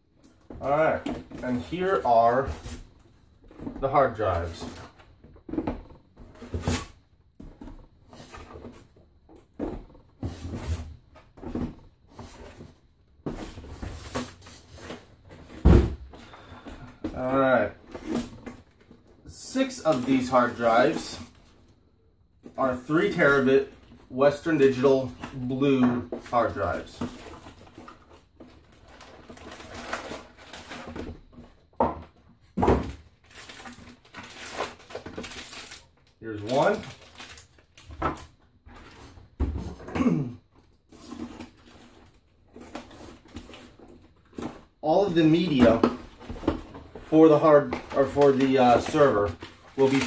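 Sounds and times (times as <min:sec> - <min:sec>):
cardboard and plastic rustling: 0:00.0 - 0:50.0.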